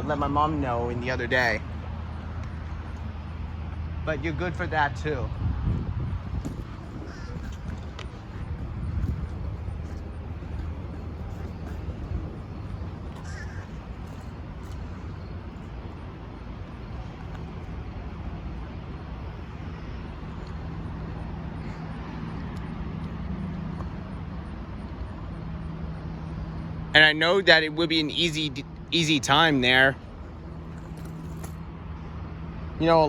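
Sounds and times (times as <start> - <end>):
vehicle engine rumbling: 0.0 - 33.0.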